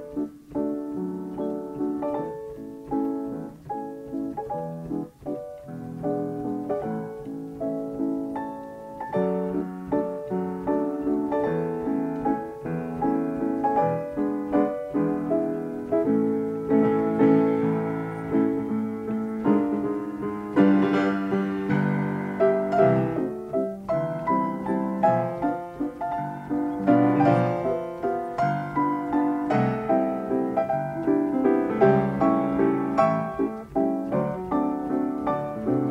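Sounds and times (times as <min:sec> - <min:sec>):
player piano melody: 0:00.0 - 0:35.9.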